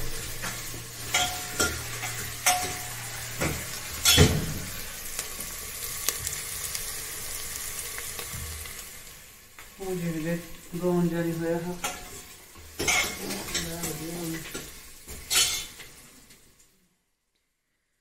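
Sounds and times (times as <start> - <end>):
onions sizzling in hot oil: 0.0 - 16.7.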